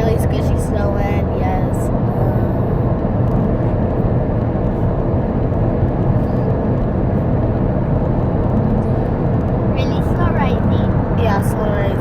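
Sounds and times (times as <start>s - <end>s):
car interior road and engine rumble: 0.0s - 12.0s.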